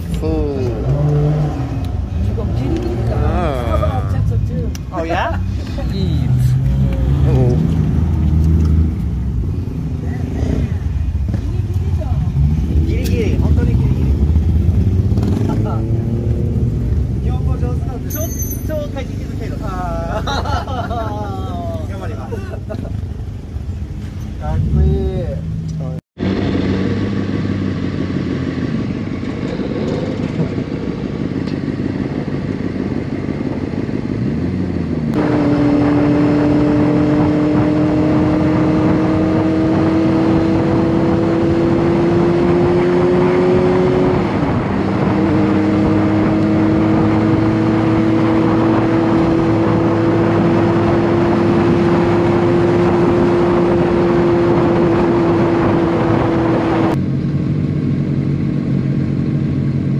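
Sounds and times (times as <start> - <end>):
motorcycle engine at high revs: 0.0 - 20.5, 26.2 - 59.9.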